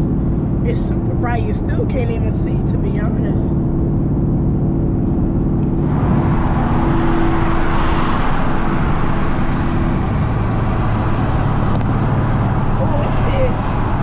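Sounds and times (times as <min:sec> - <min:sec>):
car engine running: 0:00.0 - 0:14.0
road and wind noise: 0:00.0 - 0:14.0.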